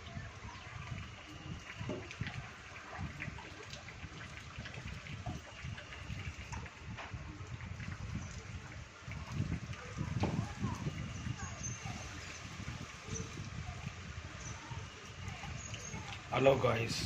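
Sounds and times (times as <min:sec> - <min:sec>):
rainwater gushing: 0:00.0 - 0:17.0.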